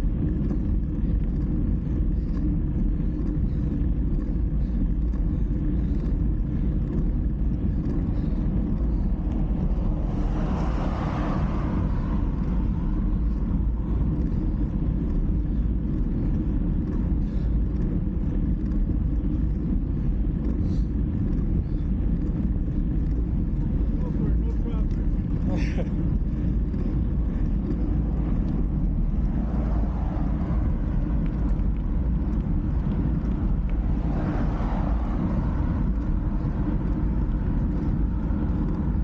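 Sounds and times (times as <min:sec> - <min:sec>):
vehicle passing: 0:00.0 - 0:39.0
wind and road noise rumble: 0:00.0 - 0:39.0.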